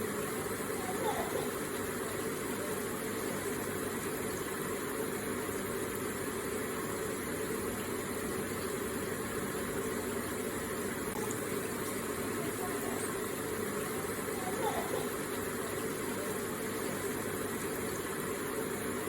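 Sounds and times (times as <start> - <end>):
water feature burbling: 0.0 - 19.0.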